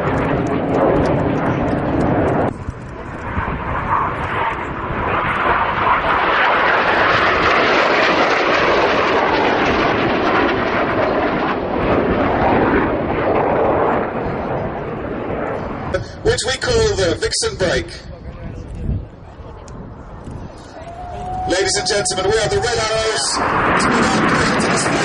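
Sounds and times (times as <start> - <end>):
jet aircraft flying past: 0.0 - 25.0.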